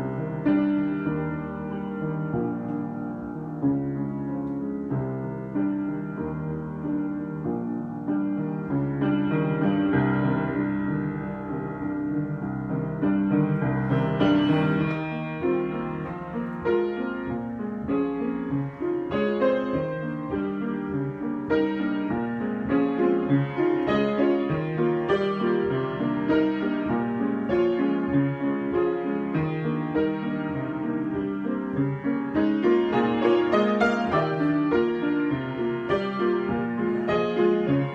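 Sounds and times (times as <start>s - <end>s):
solo piano improvisation: 0.0s - 37.9s.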